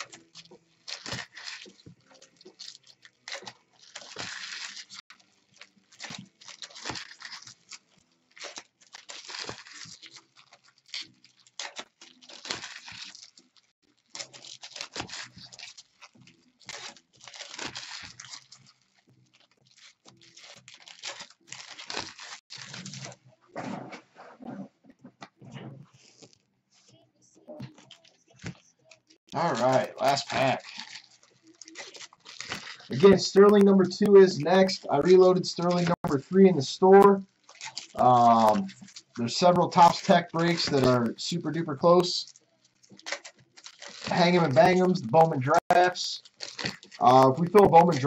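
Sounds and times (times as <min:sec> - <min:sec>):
card wrappers rustling and tearing: 0:00.0 - 0:23.2, 0:27.6 - 0:48.0.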